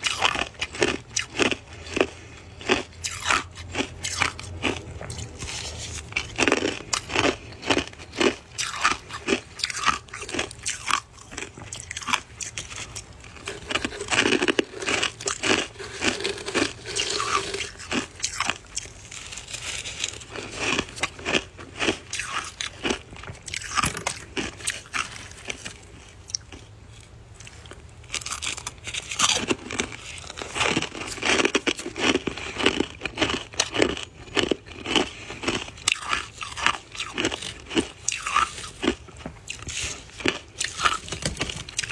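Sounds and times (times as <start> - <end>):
chewing crunchy frost: 0.0 - 41.9.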